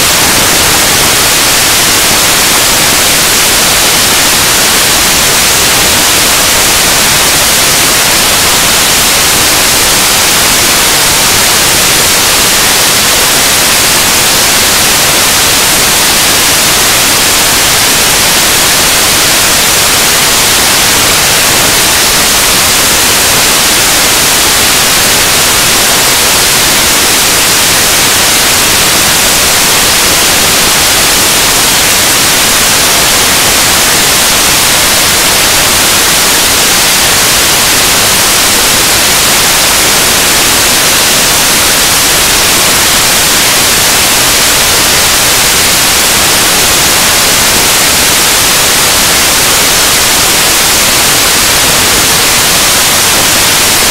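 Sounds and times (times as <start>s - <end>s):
loud static hiss: 0.0s - 53.9s.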